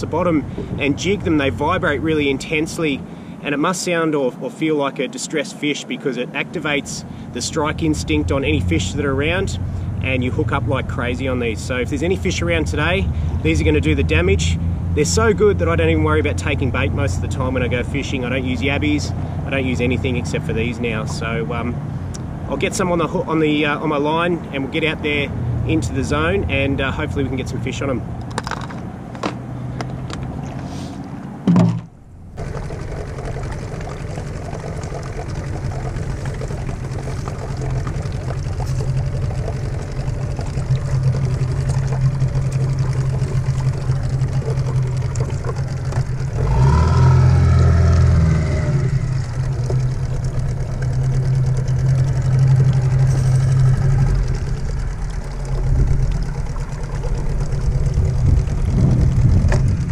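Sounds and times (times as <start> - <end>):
outboard motor running: 0.0 - 3.7, 6.6 - 59.9.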